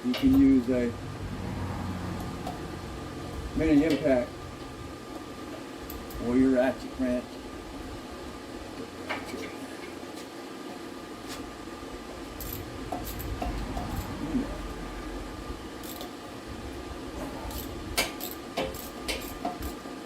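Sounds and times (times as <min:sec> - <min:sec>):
low background hum: 0:00.0 - 0:19.8.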